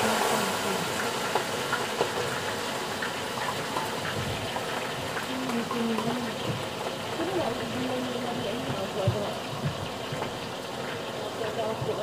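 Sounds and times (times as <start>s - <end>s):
food sizzling in a wok: 0.0s - 12.0s
utensil clicking against pan: 1.1s - 12.0s.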